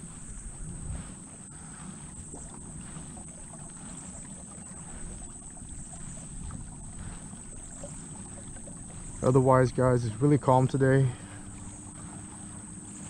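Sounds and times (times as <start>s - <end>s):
water swishing along kayak hull: 0.0s - 13.0s.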